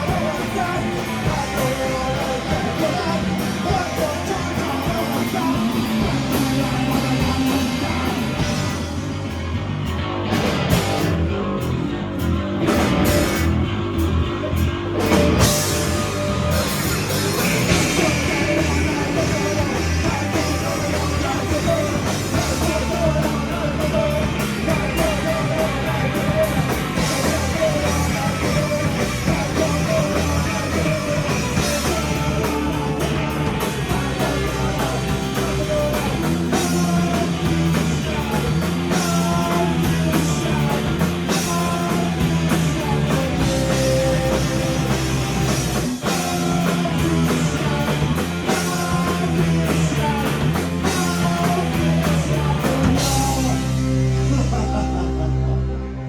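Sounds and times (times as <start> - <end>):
drum kit: 0.0 - 55.4
electric guitar: 0.0 - 56.0
live rock band playing: 0.0 - 56.0.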